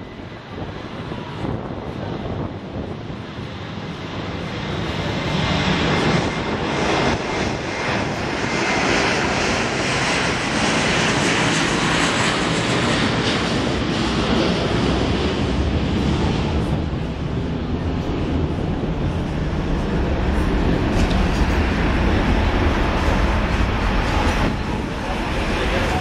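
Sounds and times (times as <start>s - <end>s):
jet airliner roar on takeoff: 0.0s - 26.0s.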